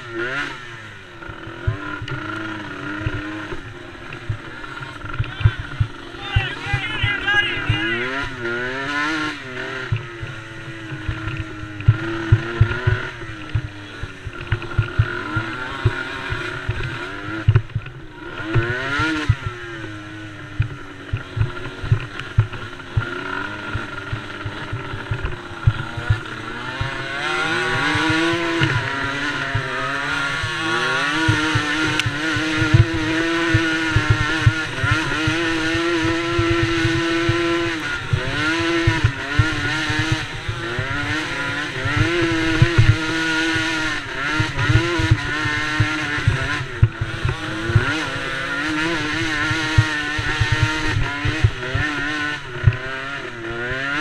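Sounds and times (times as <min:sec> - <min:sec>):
racing engines revving: 0:00.0 - 0:54.0.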